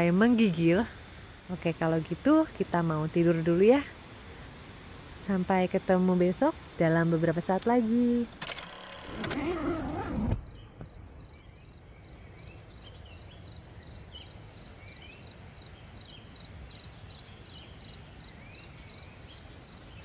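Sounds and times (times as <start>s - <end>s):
steady low hiss: 0.0s - 20.0s.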